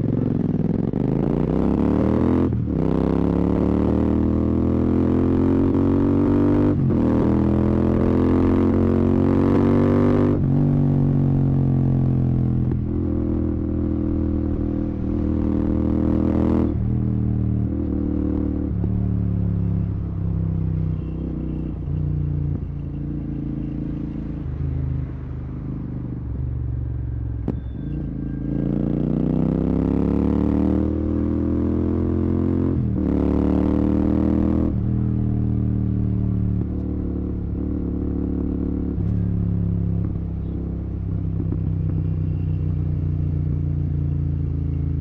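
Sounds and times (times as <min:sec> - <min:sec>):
motorcycle engine in traffic: 0:00.0 - 0:45.0.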